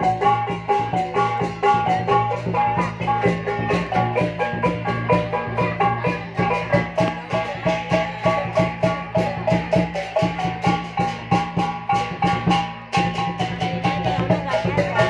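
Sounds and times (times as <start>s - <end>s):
marimba-like melody: 0.0s - 15.0s
struck percussion beat: 0.0s - 15.0s.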